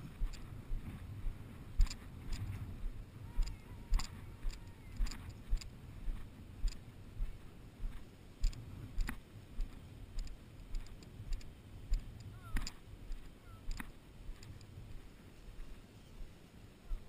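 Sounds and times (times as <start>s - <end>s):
footsteps through tall grass: 0.0s - 17.0s.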